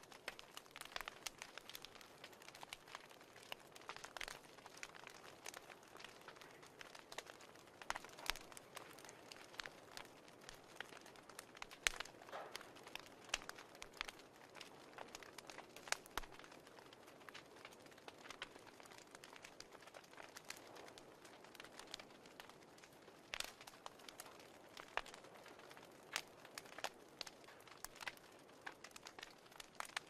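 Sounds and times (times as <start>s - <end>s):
fireplace crackling and popping: 0.0s - 30.0s
soft steady hiss: 0.0s - 30.0s.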